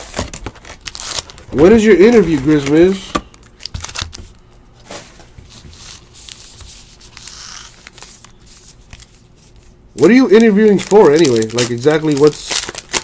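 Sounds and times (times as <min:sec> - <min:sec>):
card wrappers rustling: 0:00.0 - 0:13.0.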